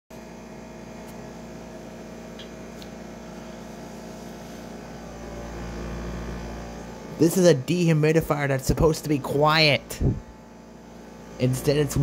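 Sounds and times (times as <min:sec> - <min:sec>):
dehumidifier humming loudly: 0:00.1 - 0:12.0
pump low rumble: 0:00.4 - 0:12.0.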